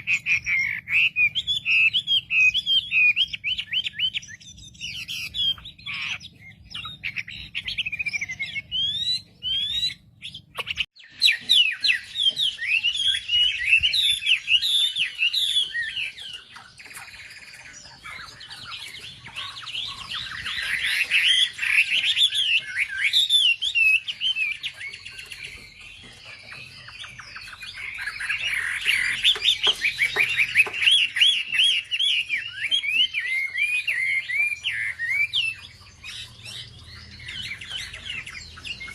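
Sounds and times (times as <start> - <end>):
small bird twittering song: 0.0 - 38.9.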